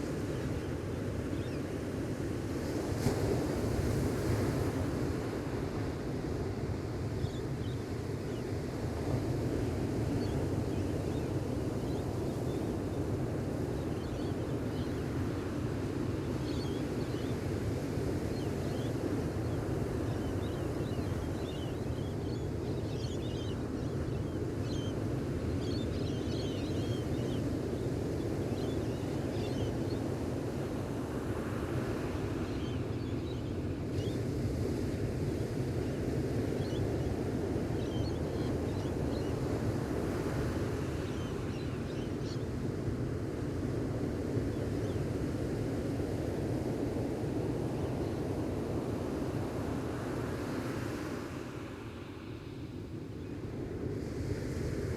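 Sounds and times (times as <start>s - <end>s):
ocean waves on a beach: 0.0s - 54.9s.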